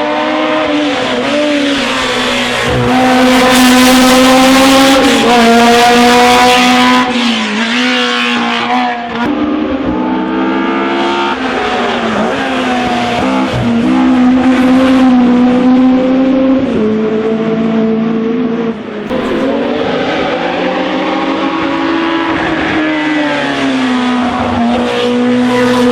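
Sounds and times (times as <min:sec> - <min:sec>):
racing car engine accelerating: 0:00.0 - 0:25.9.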